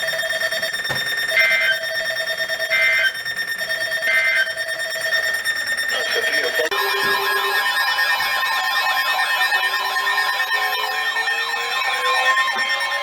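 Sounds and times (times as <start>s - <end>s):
steady electronic tone: 1.2s - 13.0s.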